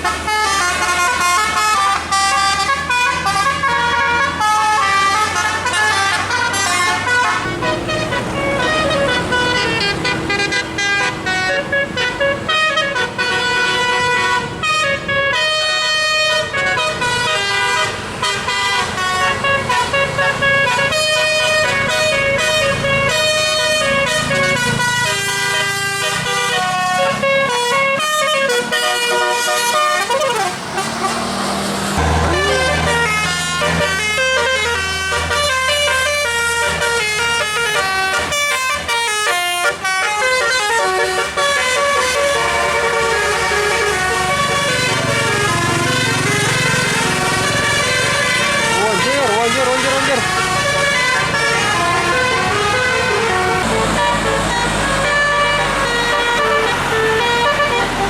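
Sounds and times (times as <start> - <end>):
bus horn playing a tune: 0.0 - 58.0.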